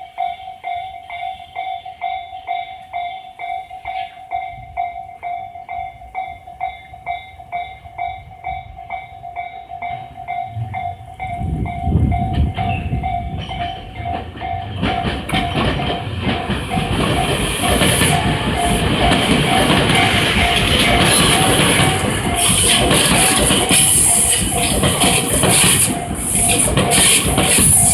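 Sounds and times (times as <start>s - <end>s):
electric train rumbling: 0.0s - 27.9s
level crossing warning bell ringing: 0.0s - 27.9s.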